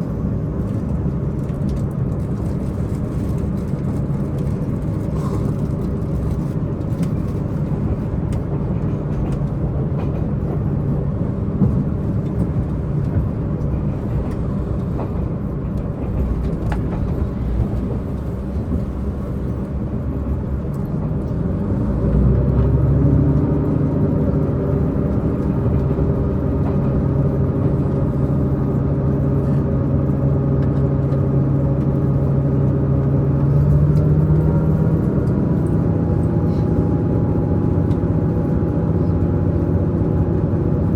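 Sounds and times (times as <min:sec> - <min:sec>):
diesel train engine: 0:00.0 - 0:40.9
wheel and rail noise: 0:00.0 - 0:40.9.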